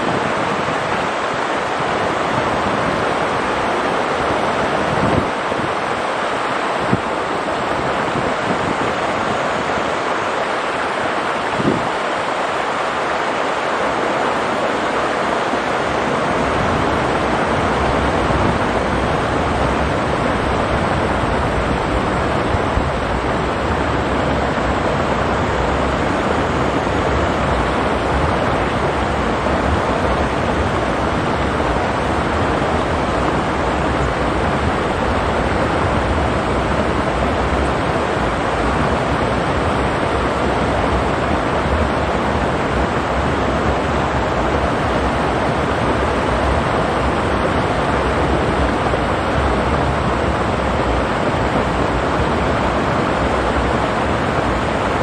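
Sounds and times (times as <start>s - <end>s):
stream rushing over rocks: 0.0s - 55.0s
wind rumble on microphone: 0.0s - 55.0s.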